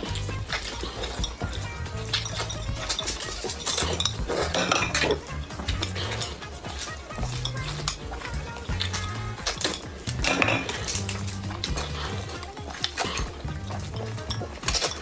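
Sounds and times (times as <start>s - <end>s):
background music with low bass: 0.0s - 15.0s
utensils clicking against a bowl: 0.0s - 15.0s.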